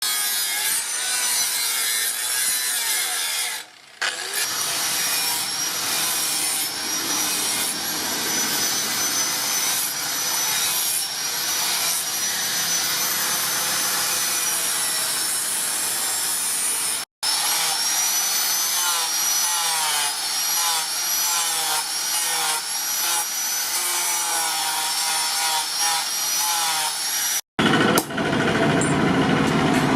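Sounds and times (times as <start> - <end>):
power tools grinding metal: 0.0 - 27.4.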